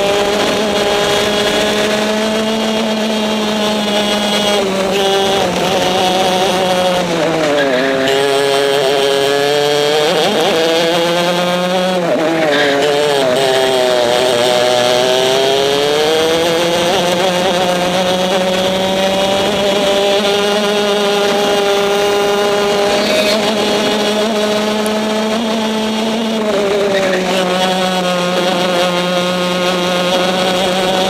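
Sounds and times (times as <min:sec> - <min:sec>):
kart engine running hard: 0:00.0 - 0:31.0.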